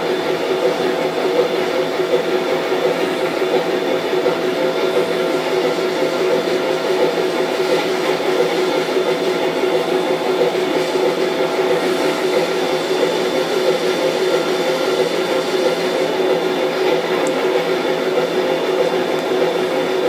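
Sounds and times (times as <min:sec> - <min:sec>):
model train whirring: 0:00.0 - 0:20.0.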